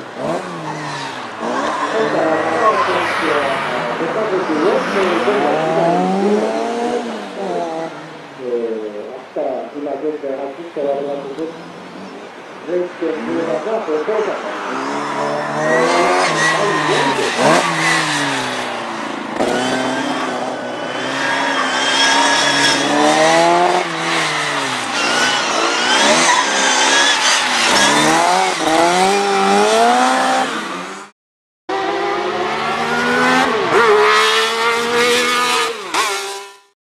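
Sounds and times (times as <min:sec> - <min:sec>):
car engine revving: 0:00.0 - 0:08.4, 0:11.8 - 0:31.1, 0:31.7 - 0:36.7.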